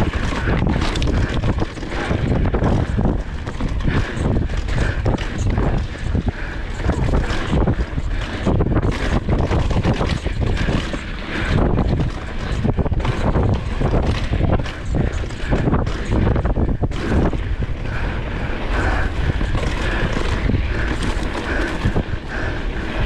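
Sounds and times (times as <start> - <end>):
bike rattling and knocking: 0.0 - 23.0
tyres on dirt: 0.0 - 23.0
wind rushing over microphone: 0.0 - 23.0.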